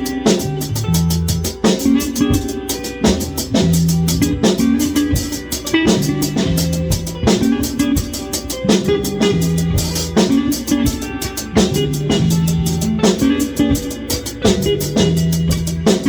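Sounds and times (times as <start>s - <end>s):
bass guitar held notes: 0.0s - 16.0s
drum kit beat: 0.0s - 16.0s
electric guitar held notes: 0.0s - 16.0s.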